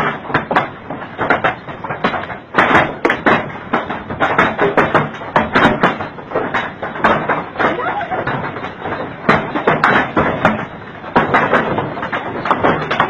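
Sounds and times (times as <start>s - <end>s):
hailstones clattering: 0.0s - 13.0s.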